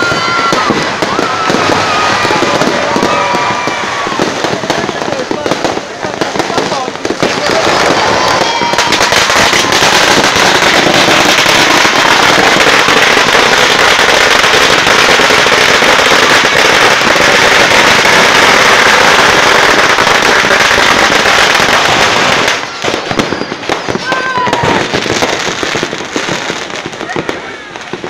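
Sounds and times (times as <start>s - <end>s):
firecrackers and fireworks banging: 0.0s - 28.0s.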